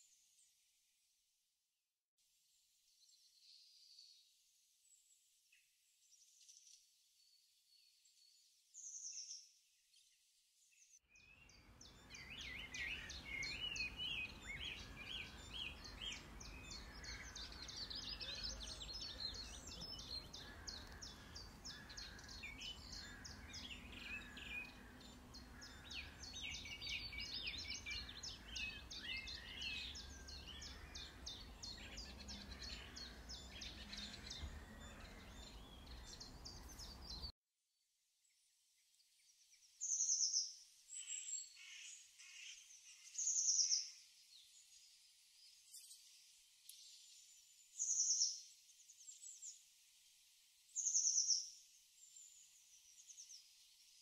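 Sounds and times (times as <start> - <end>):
small birds chirping: 2.9 - 37.3, 39.0 - 54.0.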